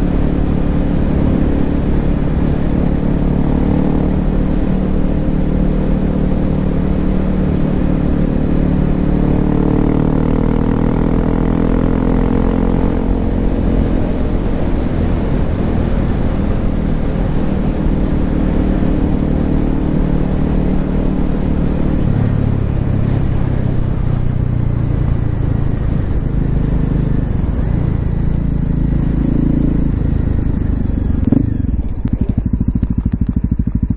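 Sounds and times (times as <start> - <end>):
motorcycle engine running: 0.0 - 33.9
road noise: 0.0 - 33.9.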